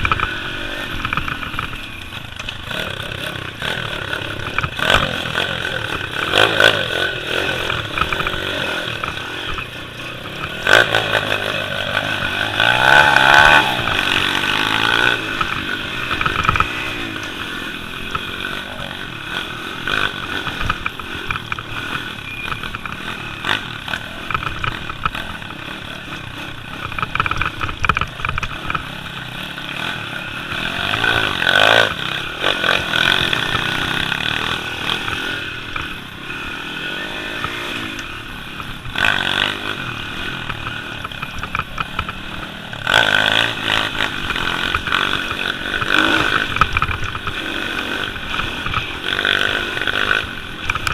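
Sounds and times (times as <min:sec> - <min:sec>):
pit bike engine revving: 0:00.0 - 0:50.9.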